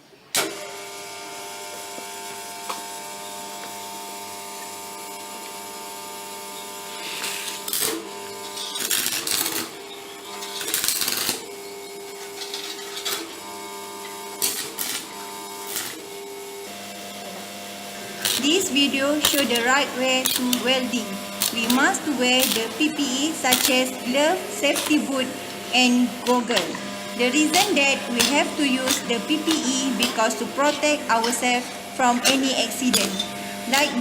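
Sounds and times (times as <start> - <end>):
welding machine hum: 0.4 - 34.0
welding arc crackling: 0.9 - 34.0.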